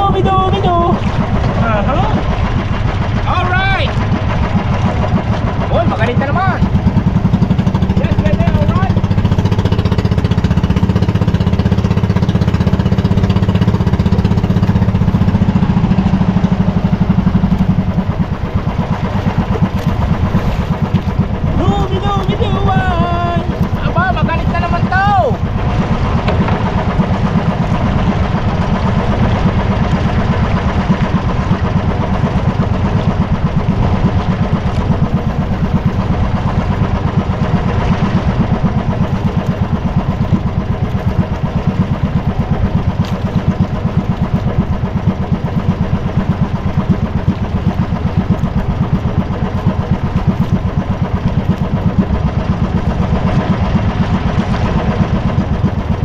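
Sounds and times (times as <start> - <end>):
small boat engine chugging: 0.0 - 56.0.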